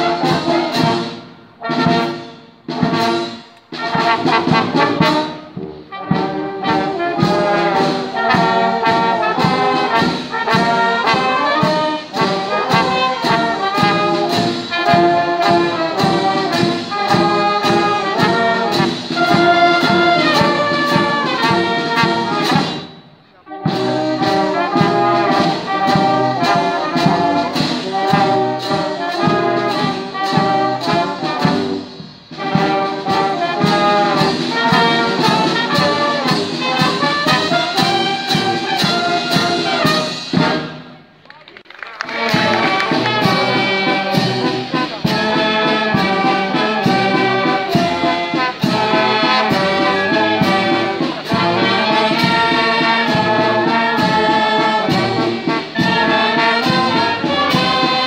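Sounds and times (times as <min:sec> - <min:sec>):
steady drum beat: 0:00.0 - 0:22.9, 0:23.6 - 0:40.9, 0:42.0 - 0:58.0
wind band playing a tune: 0:00.0 - 0:41.2, 0:41.8 - 0:58.0.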